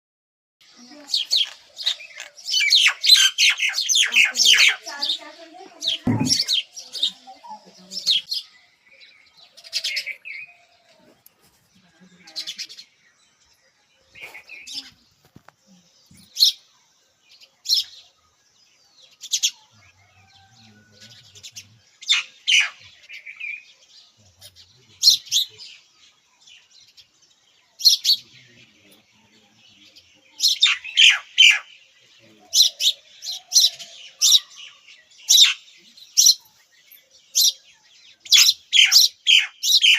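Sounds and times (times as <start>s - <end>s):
birds chirping: 0.6s - 39.9s.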